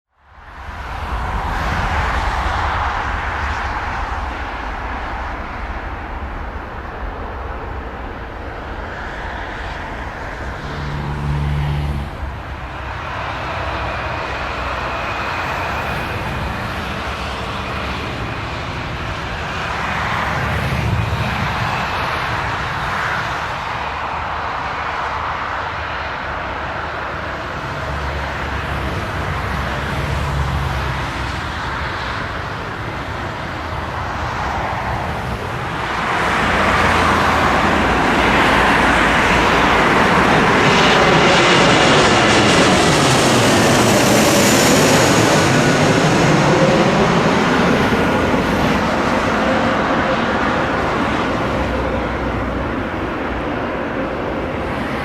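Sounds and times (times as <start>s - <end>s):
jet engine rumble: 0.1s - 55.0s
high engine whine: 0.2s - 55.0s.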